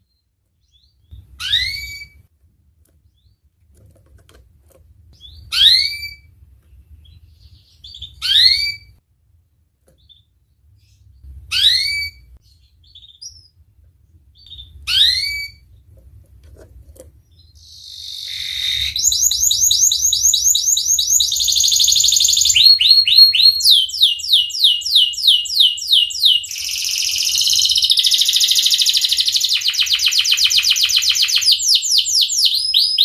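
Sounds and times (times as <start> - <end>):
canary singing: 0.1 - 2.3, 5.1 - 9.0, 10.0 - 13.6, 14.4 - 15.8, 17.2 - 33.0.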